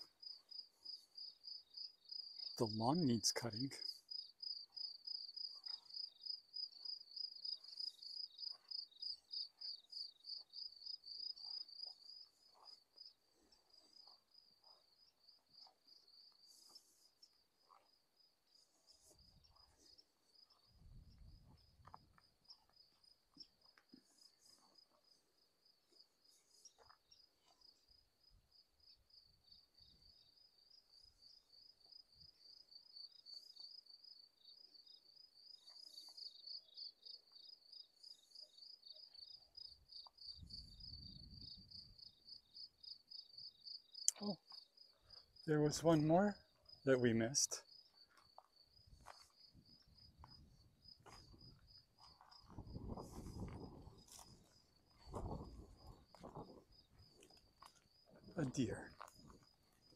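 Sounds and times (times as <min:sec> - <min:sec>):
cricket chirping: 0:00.0 - 0:59.9.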